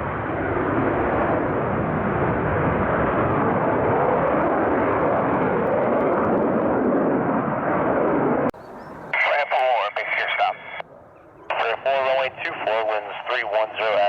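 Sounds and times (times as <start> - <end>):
fighter jet engine rush: 0.0 - 14.0.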